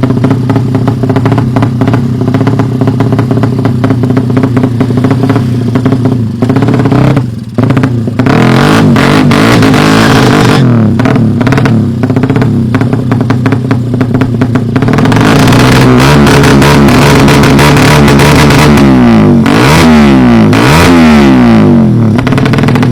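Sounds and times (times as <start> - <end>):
engine revving: 0.0 - 22.9.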